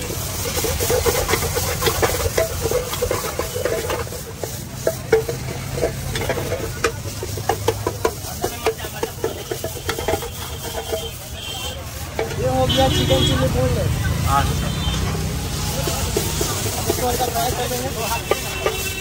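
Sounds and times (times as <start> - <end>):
ladle scraping a wok: 0.0 - 19.0
steady sizzle: 0.0 - 19.0.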